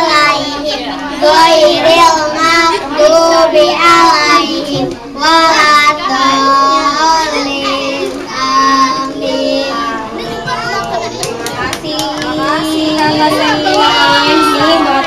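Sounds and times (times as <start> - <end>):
girls singing into a microphone: 0.0 - 15.0.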